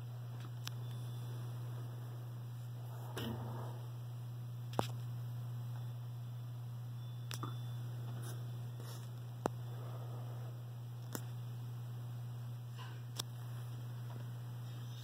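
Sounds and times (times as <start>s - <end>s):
electric fan motor humming: 0.0s - 15.0s.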